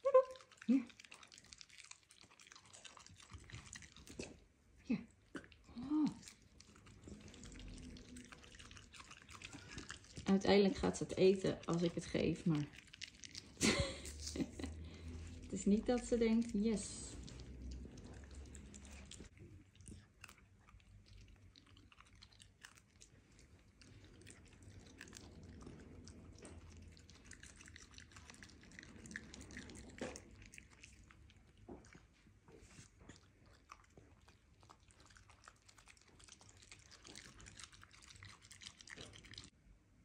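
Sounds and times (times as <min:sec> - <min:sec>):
dog chewing crunchy greens: 0:00.2 - 0:04.6, 0:05.3 - 0:39.6.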